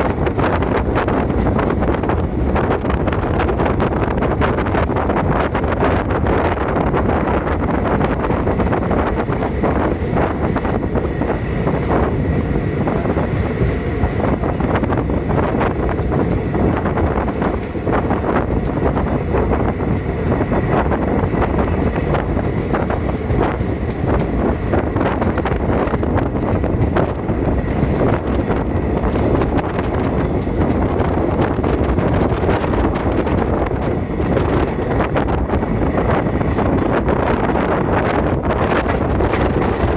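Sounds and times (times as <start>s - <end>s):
passenger train running on track: 0.0s - 39.9s
wind buffeting microphone: 0.0s - 39.9s.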